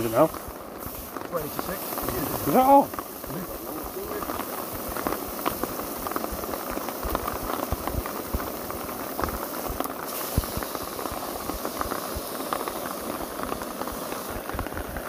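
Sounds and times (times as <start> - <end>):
steak sizzling in a pan: 0.0 - 15.0.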